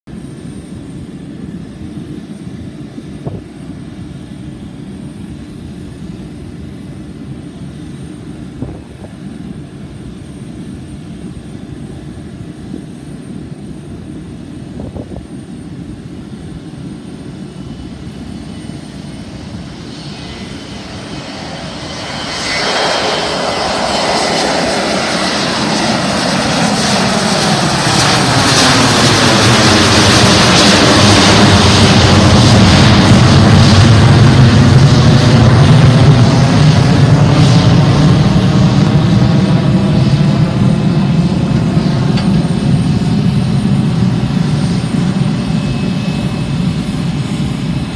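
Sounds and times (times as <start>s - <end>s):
jet plane taking off: 0.1s - 47.9s
jet whine and roar: 0.1s - 47.9s.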